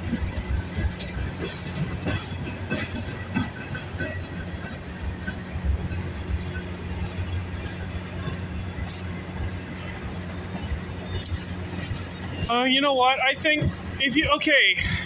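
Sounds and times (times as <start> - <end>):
freight train rumbling: 0.0 - 15.0
train wheel clicks and clanks: 0.0 - 15.0.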